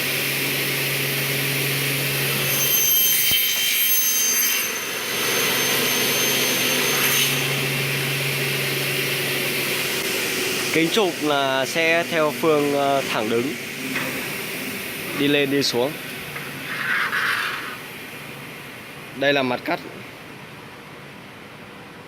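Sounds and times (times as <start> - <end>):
saw motors humming: 0.0 - 19.0
blades cutting metal whine: 0.0 - 19.4.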